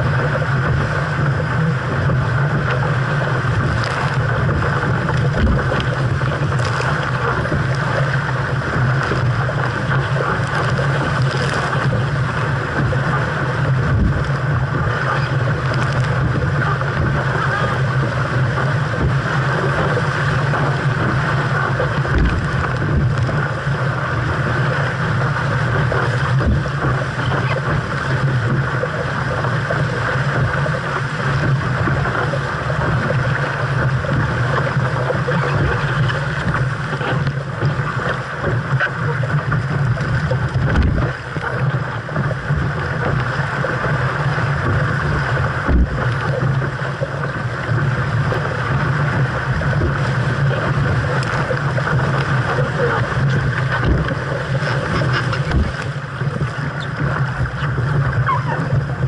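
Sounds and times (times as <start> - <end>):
water rushing along boat hull: 0.0 - 59.0
wind buffeting microphone: 0.0 - 59.0.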